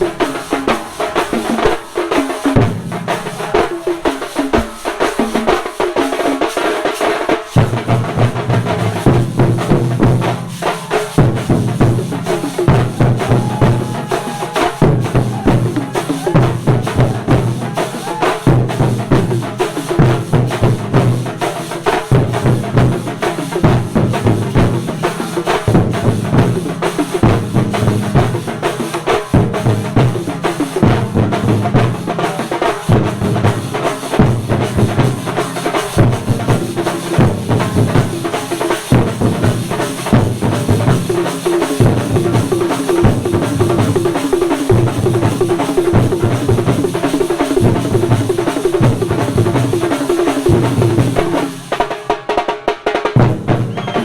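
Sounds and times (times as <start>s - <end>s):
drum ensemble playing: 0.0s - 54.0s
deep drum strokes: 7.6s - 51.9s.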